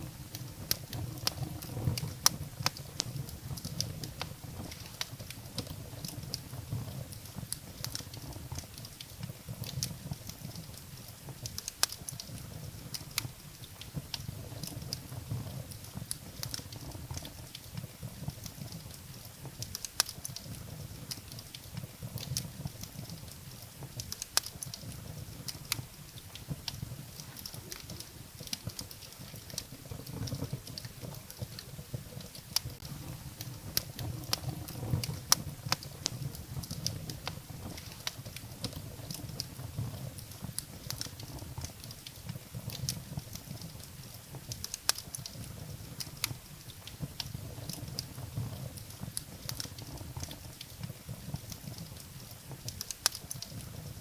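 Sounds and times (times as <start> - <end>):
flames burning: 0.0 - 54.0
wood crackling and popping: 0.0 - 54.0.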